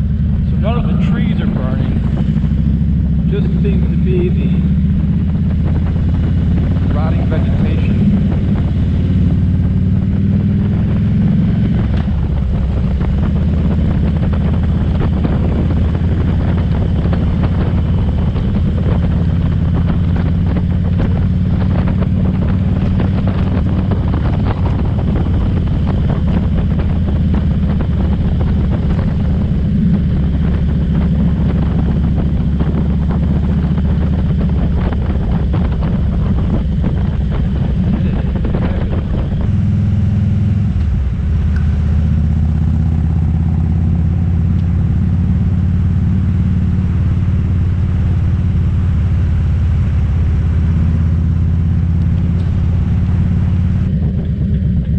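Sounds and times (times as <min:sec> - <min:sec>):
motorcycle engine running: 0:00.0 - 0:54.9
wind rushing over microphone: 0:00.0 - 0:54.9.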